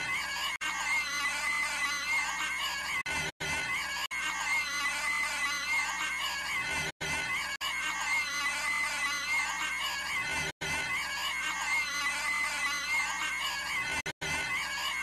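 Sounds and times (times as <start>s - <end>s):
cartoon girl screeching: 0.0s - 15.0s.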